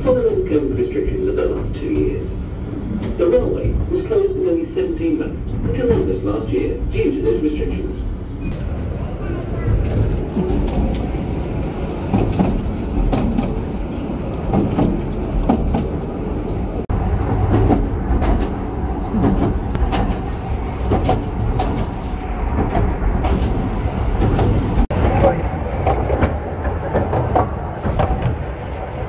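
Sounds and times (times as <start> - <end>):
train carriage rumbling: 0.0 - 29.0.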